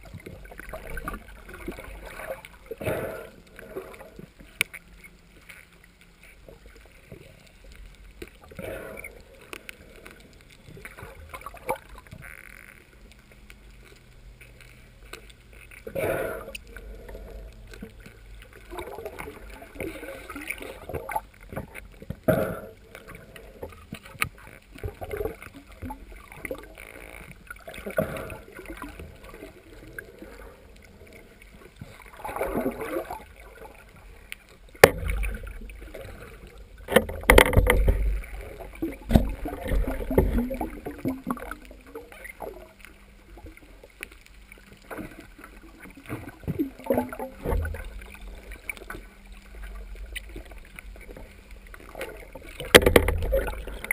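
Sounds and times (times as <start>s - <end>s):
underwater swishing and gurgling: 0.0s - 53.9s.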